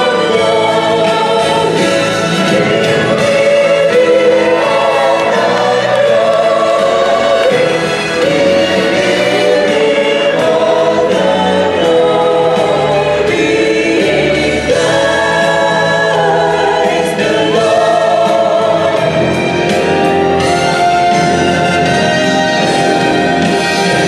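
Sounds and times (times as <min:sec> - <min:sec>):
choir singing gospel song: 0:00.0 - 0:24.0
musical accompaniment: 0:00.0 - 0:24.0.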